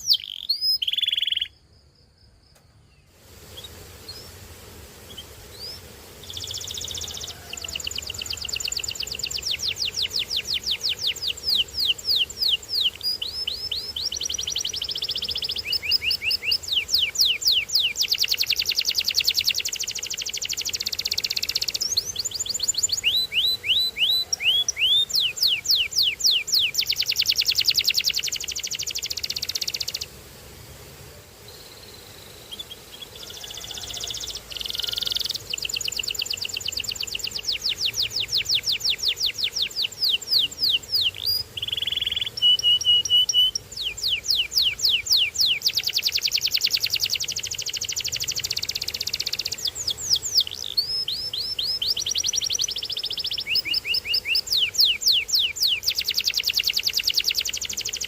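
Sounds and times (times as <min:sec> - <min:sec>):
canary singing trills: 0:00.0 - 0:01.6, 0:05.0 - 0:30.1, 0:31.5 - 0:58.0.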